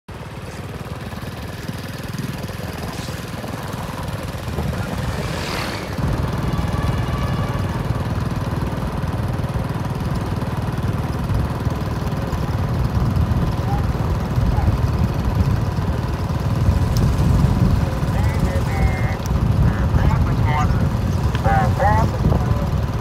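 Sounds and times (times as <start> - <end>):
engine running: 0.1 - 23.0.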